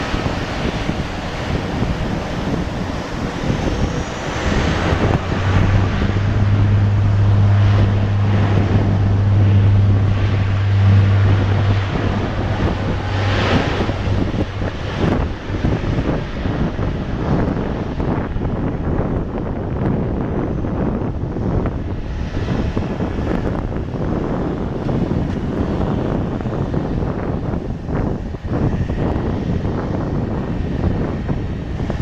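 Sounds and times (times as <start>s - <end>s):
turboprop propeller drone: 0.0s - 32.0s
wind buffeting on microphone: 0.0s - 32.0s.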